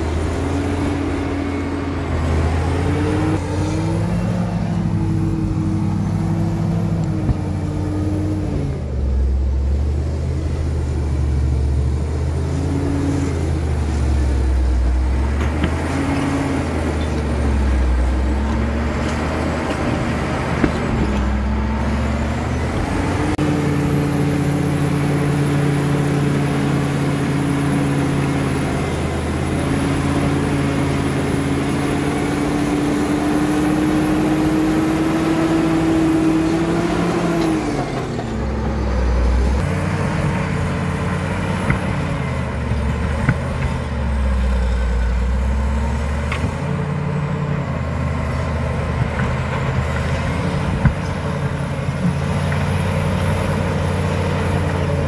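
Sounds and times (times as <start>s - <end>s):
bulldozer diesel engine running hard: 0.0s - 55.0s.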